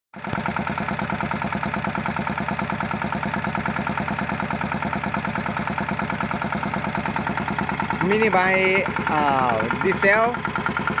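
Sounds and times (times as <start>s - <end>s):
small diesel engine idling: 0.2s - 11.0s.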